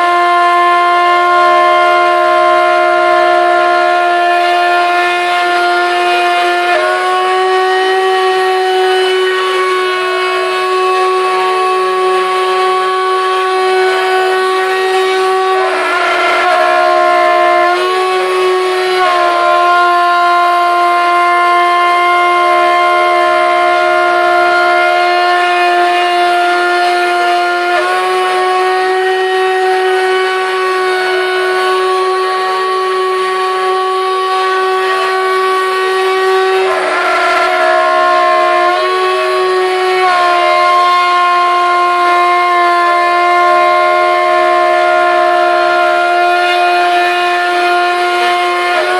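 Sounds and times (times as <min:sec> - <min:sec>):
cnc router spindle whining: 0:00.0 - 0:48.9.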